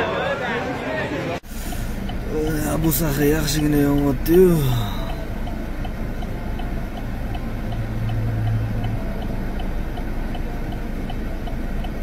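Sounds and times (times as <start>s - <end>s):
constant low hum: 1.4s - 12.0s
low drone: 1.5s - 12.0s
regular light ticking: 1.5s - 12.0s.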